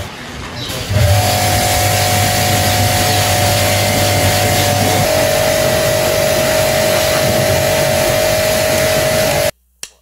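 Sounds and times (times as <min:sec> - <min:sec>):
pressure washer whining: 0:00.7 - 0:09.5
water jet hissing: 0:00.7 - 0:09.5.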